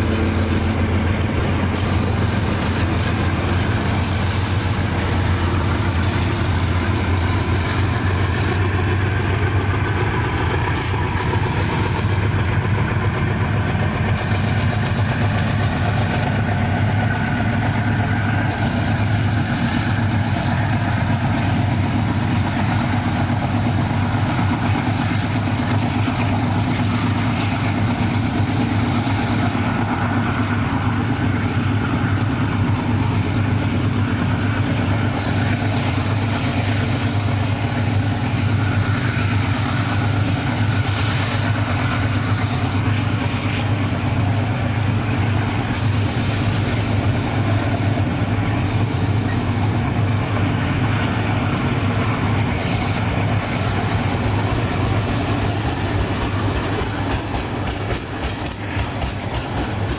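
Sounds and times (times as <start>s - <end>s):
diesel locomotives low drone: 0.0s - 59.9s.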